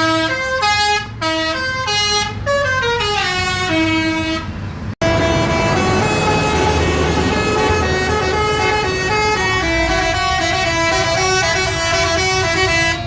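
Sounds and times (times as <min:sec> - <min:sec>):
bus engine rumble: 0:00.0 - 0:13.0
multi-tone bus horn melody: 0:00.0 - 0:13.0.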